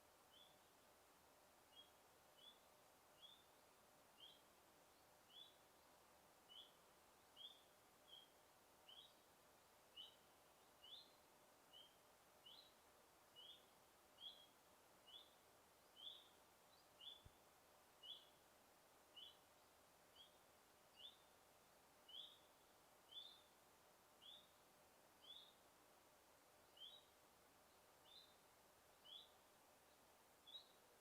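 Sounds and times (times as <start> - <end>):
faint forest ambience: 0.0 - 31.0.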